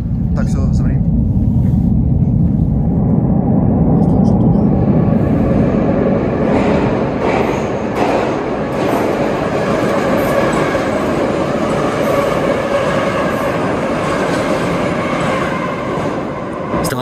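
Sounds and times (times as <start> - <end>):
metro train rumbling past: 0.0 - 17.0.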